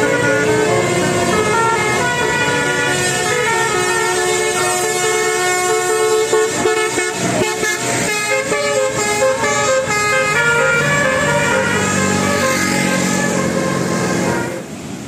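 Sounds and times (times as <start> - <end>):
musical vehicle horn playing tune: 0.0 - 14.8.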